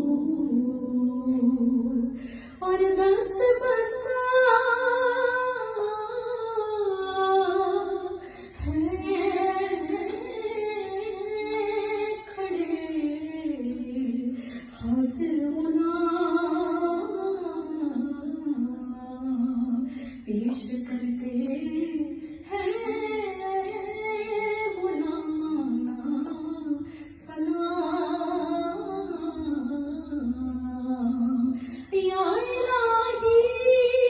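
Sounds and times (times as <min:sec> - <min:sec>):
woman singing slow devotional melody: 0:00.0 - 0:34.0.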